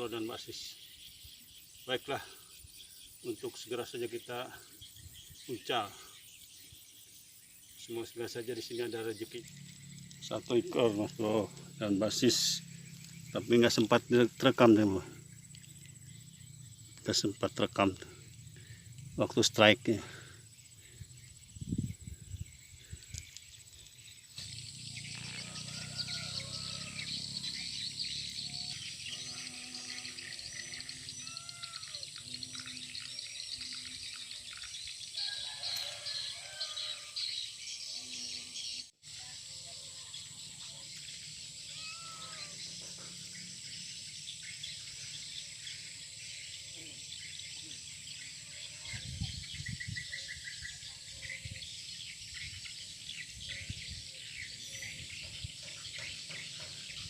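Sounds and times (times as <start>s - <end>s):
high outdoor hiss: 0.0s - 57.0s
wild birds chirping: 0.0s - 57.0s.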